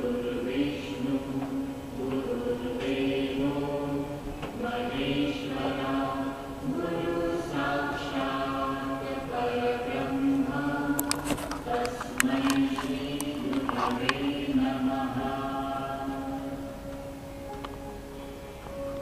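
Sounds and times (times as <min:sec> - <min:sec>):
voices chanting a mantra: 0:00.0 - 0:16.8.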